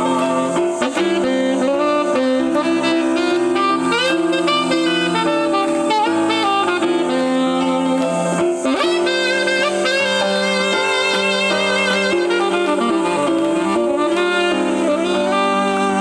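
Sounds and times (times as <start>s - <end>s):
jazz band playing live: 0.0s - 16.0s.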